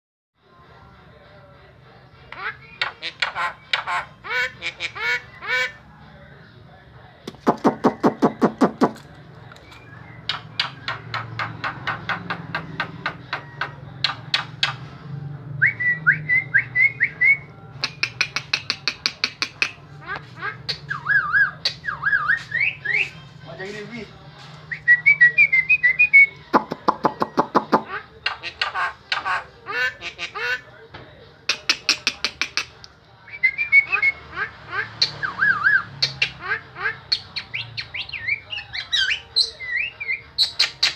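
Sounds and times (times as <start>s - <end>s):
starling singing: 0.4s - 40.9s.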